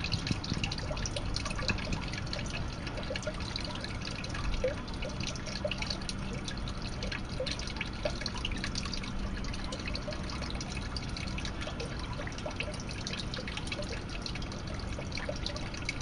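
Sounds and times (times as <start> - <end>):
water trickling into pond: 0.0 - 16.0.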